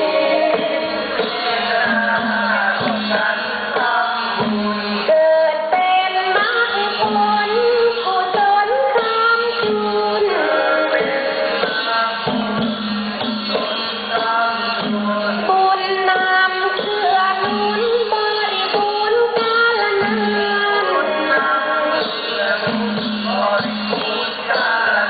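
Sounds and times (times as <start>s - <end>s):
woman singing: 0.0s - 12.7s, 14.1s - 25.0s.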